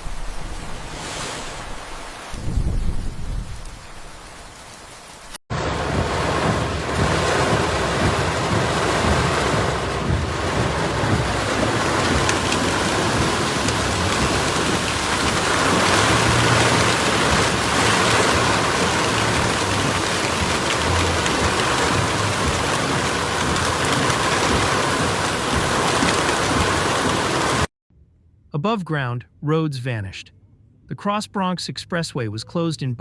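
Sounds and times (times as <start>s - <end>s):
heavy rain: 0.0s - 27.7s
low rumbles: 0.0s - 29.5s.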